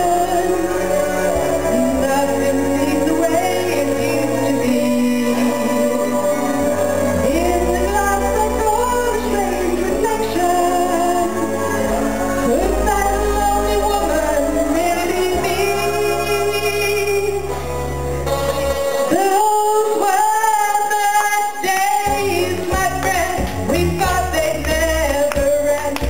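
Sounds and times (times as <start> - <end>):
woman singing pop song: 0.0 - 17.7, 18.9 - 26.0
pop backing track: 0.0 - 26.0.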